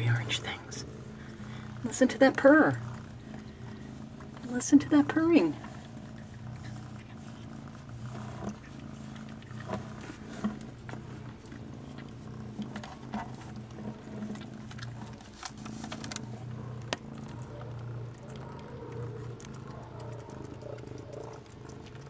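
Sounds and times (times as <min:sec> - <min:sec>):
cat purring: 0:00.0 - 0:22.0
faint clicks and rustles: 0:00.0 - 0:22.0.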